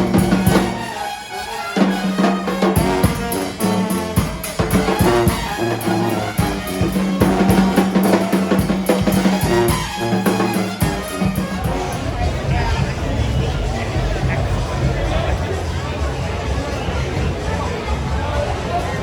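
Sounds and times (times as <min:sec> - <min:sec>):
band music with drums and brass: 0:00.0 - 0:18.8.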